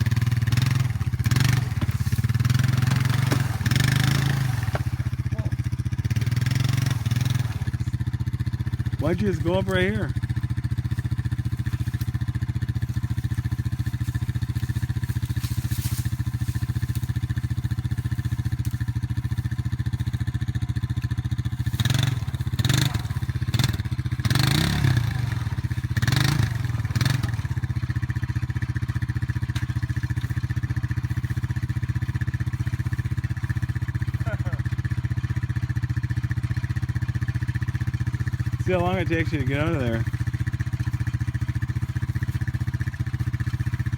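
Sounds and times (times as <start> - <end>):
atv engine idling: 0.0 - 43.9
atv engine revving: 0.0 - 43.9.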